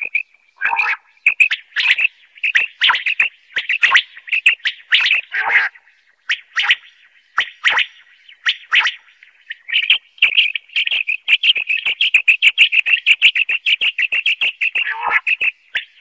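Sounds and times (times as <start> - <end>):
quail calling: 0.0 - 16.0.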